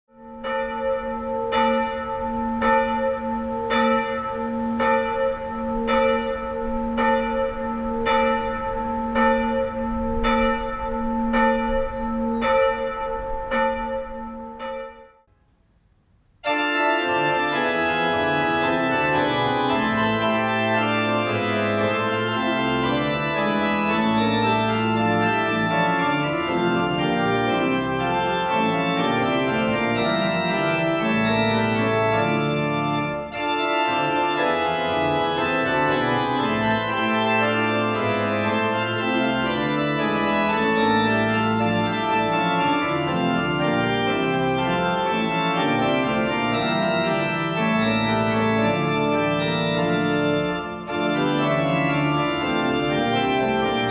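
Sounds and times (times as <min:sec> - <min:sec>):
church bell ringing: 0:00.1 - 0:15.3, 0:16.4 - 0:53.9
pipe organ chords: 0:00.1 - 0:15.6, 0:16.2 - 0:53.9.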